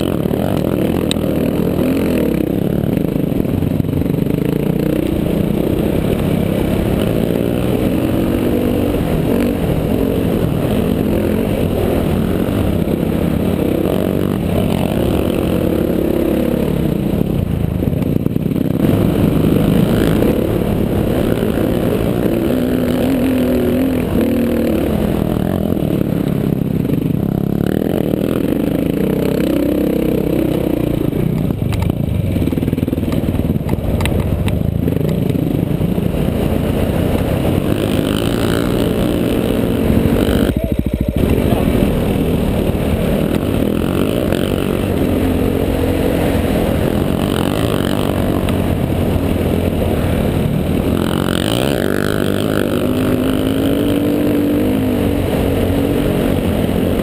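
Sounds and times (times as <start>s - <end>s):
quad engine revving: 0.0s - 57.0s
wind and ground noise: 0.0s - 57.0s.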